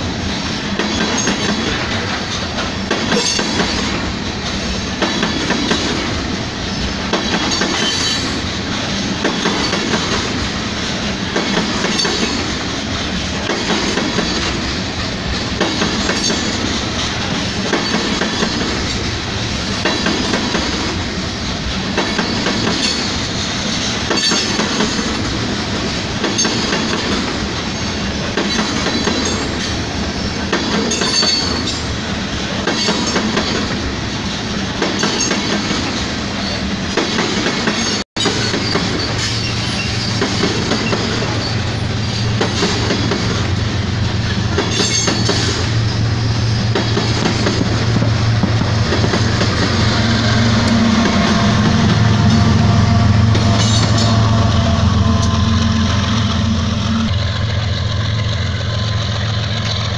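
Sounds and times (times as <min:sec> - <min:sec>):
clickety-clack over rail joints: 0:00.0 - 0:54.3, 0:56.8 - 0:59.9
train wheels rushing on rails: 0:00.0 - 0:59.9.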